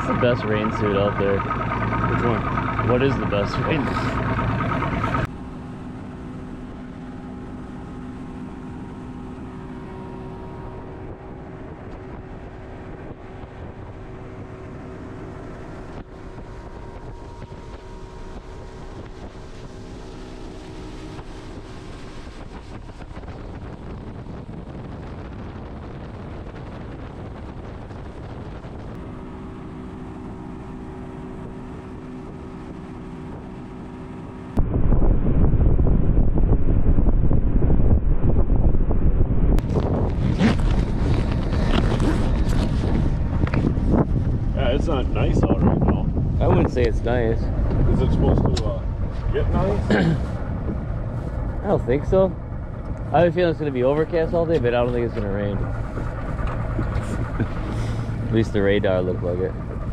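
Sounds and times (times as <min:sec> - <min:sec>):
outboard motor running: 0:00.0 - 0:59.9
wind on microphone: 0:03.0 - 0:59.9.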